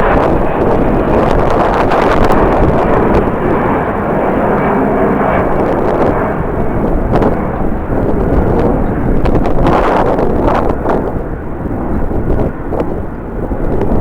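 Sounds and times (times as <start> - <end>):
jet engines running: 0.0 - 14.0
wind buffeting microphone: 0.0 - 14.0.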